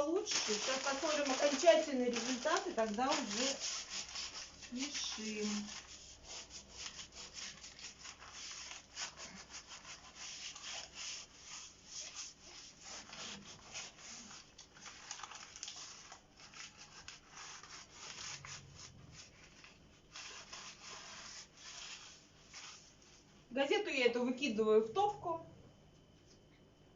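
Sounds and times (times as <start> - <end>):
crumpled newspaper rubbing on glass: 0.0 - 23.3.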